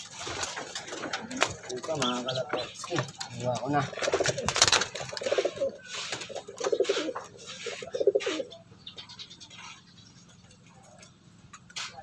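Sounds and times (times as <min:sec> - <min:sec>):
pigeons cooing: 0:00.0 - 0:11.2.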